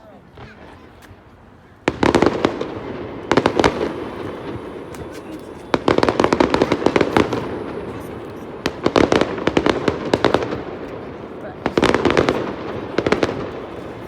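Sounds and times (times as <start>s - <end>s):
fireworks crackling bangs: 0.3s - 14.0s
distant popping: 1.9s - 14.0s.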